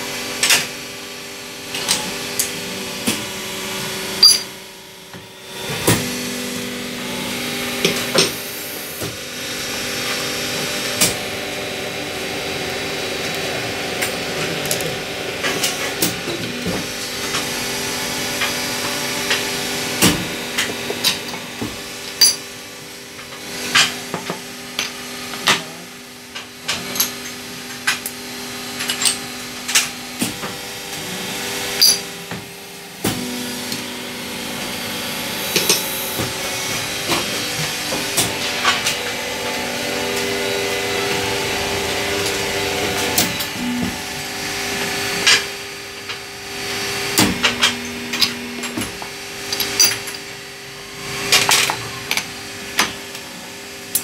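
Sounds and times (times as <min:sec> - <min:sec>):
moulding machine humming: 0:00.0 - 0:54.0.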